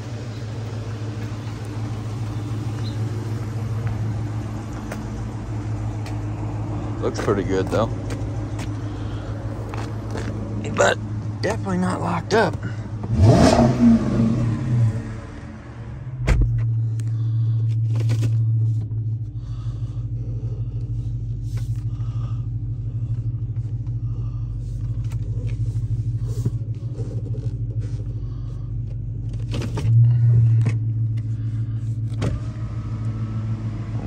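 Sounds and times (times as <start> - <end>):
car engine low drone: 0.0 - 34.0.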